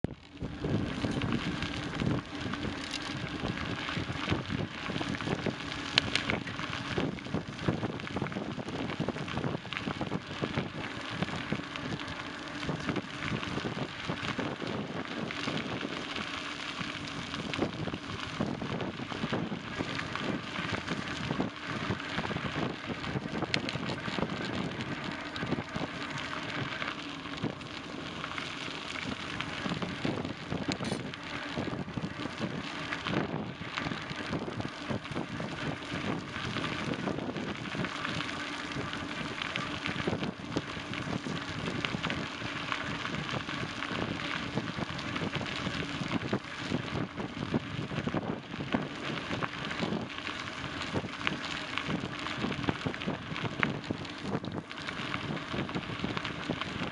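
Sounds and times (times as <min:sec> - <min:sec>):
bicycle tyres rolling on trail: 0:00.0 - 0:56.9.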